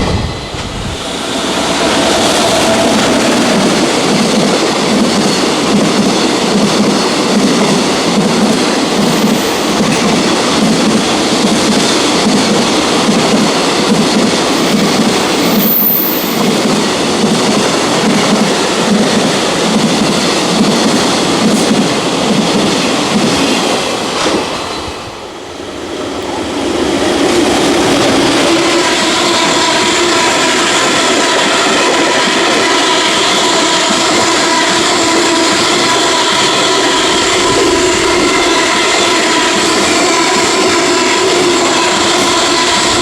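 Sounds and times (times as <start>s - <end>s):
freight train wheels on rails: 0.0s - 43.0s.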